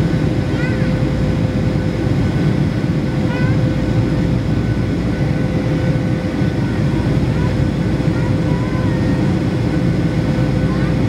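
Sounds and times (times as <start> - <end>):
jet cabin roar: 0.0 - 11.0.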